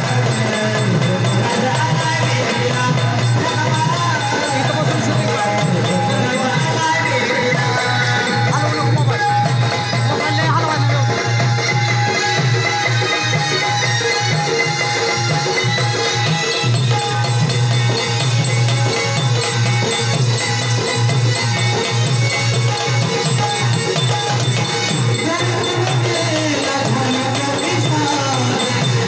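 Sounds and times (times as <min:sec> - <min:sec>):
drum beat: 0:00.0 - 0:29.0.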